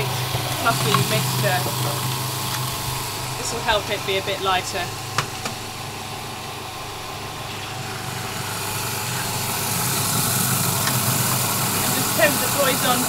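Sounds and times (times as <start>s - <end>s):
blender motor running: 0.0s - 13.0s.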